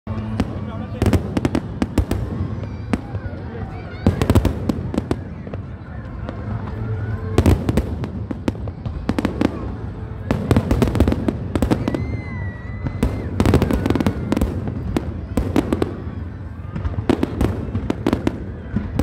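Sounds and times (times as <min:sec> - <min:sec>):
fireworks crackling bangs: 0:00.1 - 0:19.0
whistling firework: 0:00.1 - 0:19.0.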